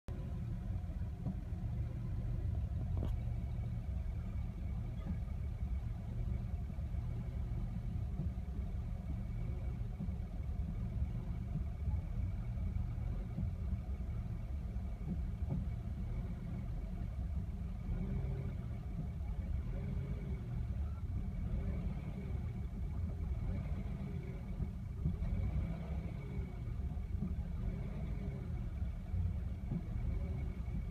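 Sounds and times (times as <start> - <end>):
car engine idling roughly: 0.1 - 30.9.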